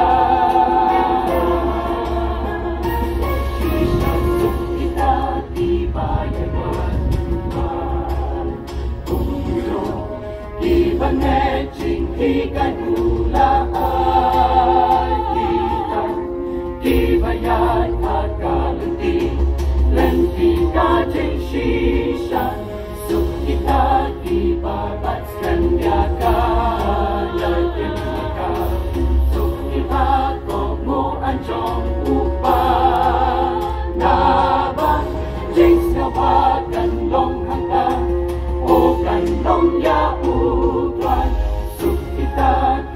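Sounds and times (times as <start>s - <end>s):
mixed choir singing: 0.0s - 42.9s.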